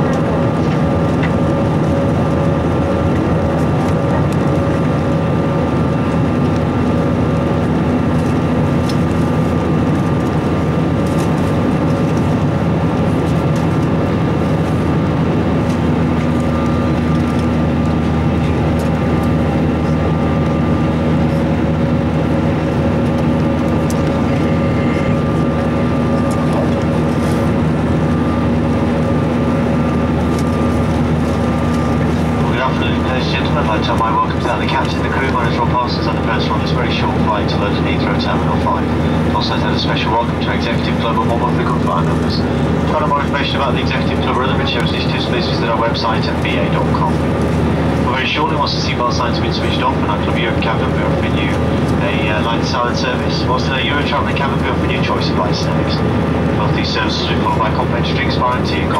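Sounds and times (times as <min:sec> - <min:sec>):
constant low hum: 0:00.0 - 0:58.9
jet engine and airflow noise: 0:00.0 - 0:58.9.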